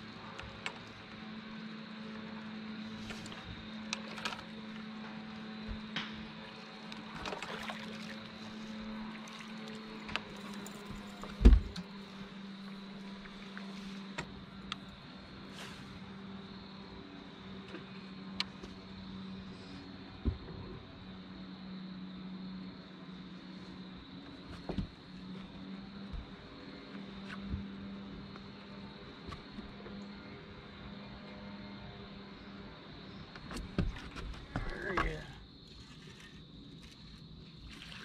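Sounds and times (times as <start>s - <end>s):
electric trolling motor hum: 0.0s - 38.0s.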